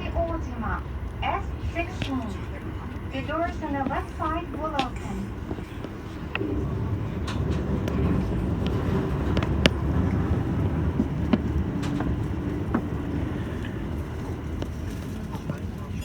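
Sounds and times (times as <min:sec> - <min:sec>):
faint hum: 0:00.0 - 0:16.0
train wheels rumbling on rail: 0:00.0 - 0:16.0
wheels clicking over rail joints: 0:00.2 - 0:16.0.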